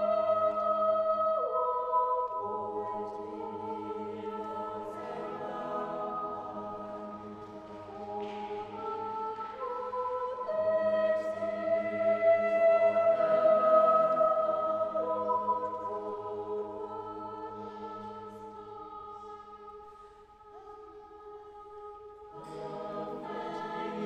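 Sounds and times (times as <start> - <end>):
a cappella choir singing: 0.0 - 24.0.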